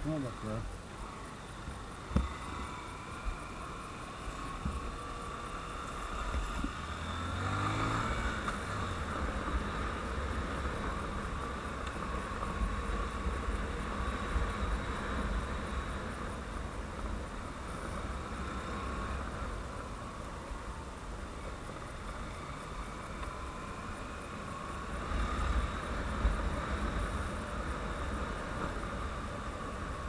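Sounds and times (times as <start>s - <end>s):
motorcycle engine running: 0.8s - 30.0s.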